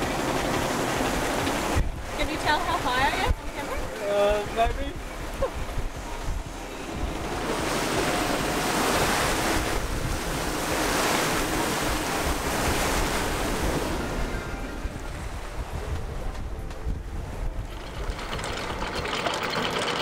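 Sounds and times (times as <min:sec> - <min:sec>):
wind on microphone: 0:00.0 - 0:19.2
water rushing along hull: 0:00.0 - 0:20.0.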